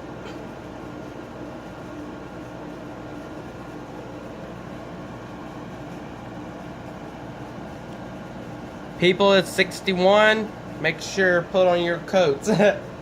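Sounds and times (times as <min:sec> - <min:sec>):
air conditioner fan whooshing: 0:00.0 - 0:13.0
constant low hum: 0:00.0 - 0:13.0.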